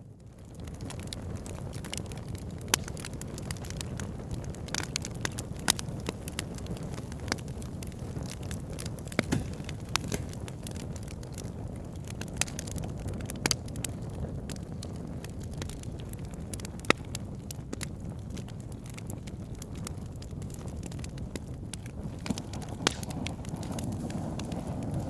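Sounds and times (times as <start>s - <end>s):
fire burning with crackles: 0.0s - 25.0s.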